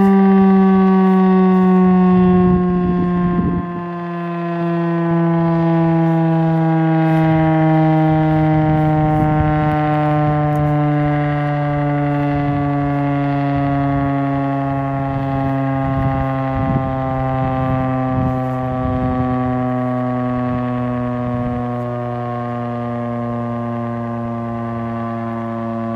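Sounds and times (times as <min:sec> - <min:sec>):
warning siren steady tone: 0:00.0 - 0:25.9.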